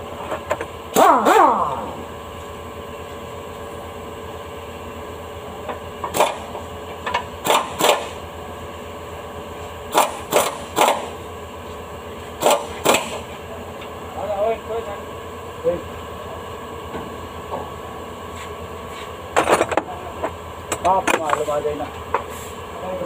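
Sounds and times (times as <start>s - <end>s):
background hum: 0.0s - 23.0s.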